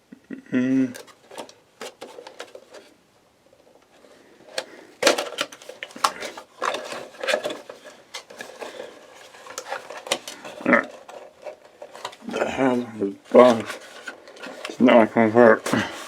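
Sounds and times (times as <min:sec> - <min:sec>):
plastic packaging crinkling: 0:01.0 - 0:02.9, 0:04.5 - 0:16.0.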